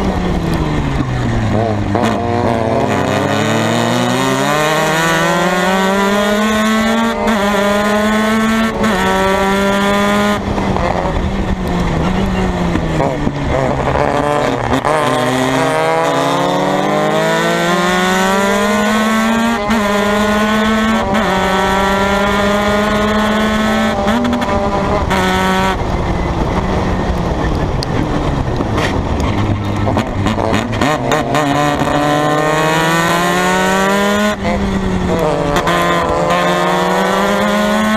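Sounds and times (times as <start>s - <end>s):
race car engine revving: 0.0s - 37.9s.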